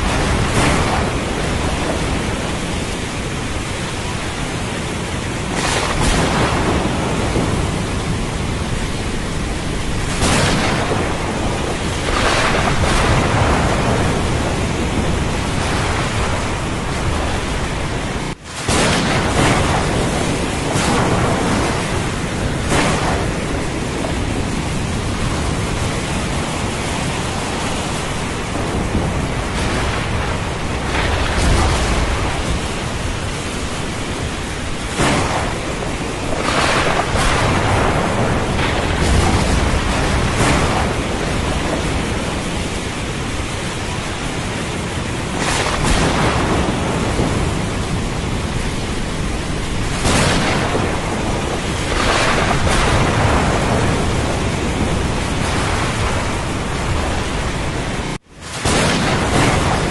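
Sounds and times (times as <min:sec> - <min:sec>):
heavy rain: 0:00.0 - 0:59.9
low rumble of thunder: 0:00.0 - 0:59.9.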